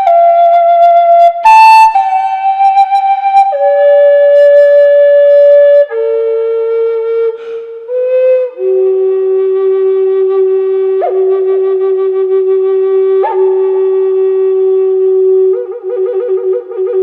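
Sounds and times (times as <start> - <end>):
flute playing slow melody: 0.0 - 17.0.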